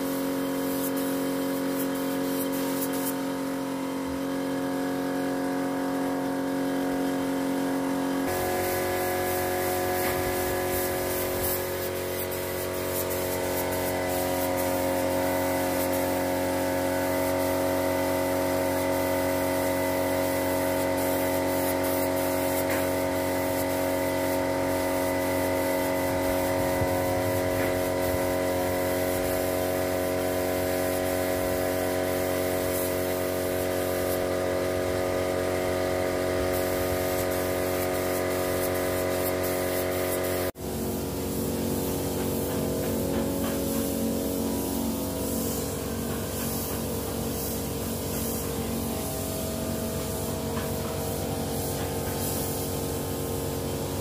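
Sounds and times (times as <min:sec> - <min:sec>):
spray gun hissing: 0:00.0 - 0:06.4, 0:07.0 - 0:54.0
air compressor humming: 0:00.3 - 0:54.0.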